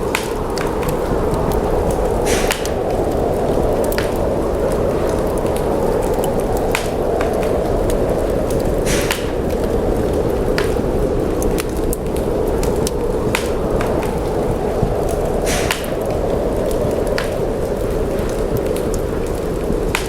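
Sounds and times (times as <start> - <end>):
storm wind roaring: 0.0 - 20.0
wood fire crackling and popping: 0.0 - 20.0.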